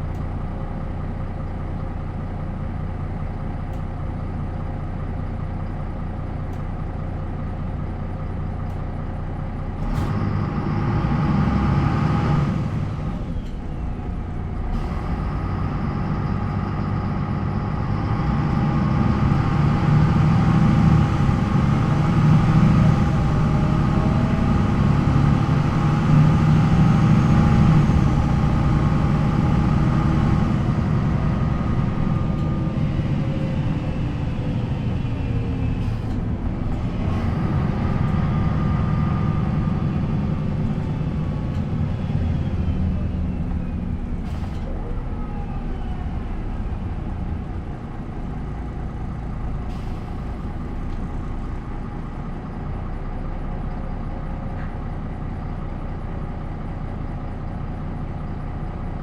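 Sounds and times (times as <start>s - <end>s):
bus diesel engine shifting gears: 6.0s - 59.0s.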